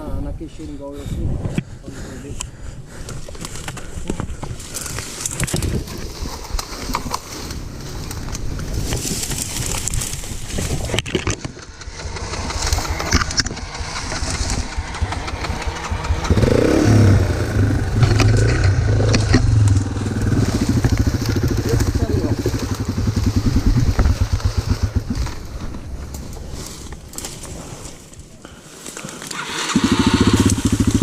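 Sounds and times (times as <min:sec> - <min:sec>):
rustling noise: 0:03.2 - 0:16.3, 0:16.9 - 0:29.4
dirt bike engine running: 0:03.8 - 0:27.9, 0:29.3 - 0:31.0.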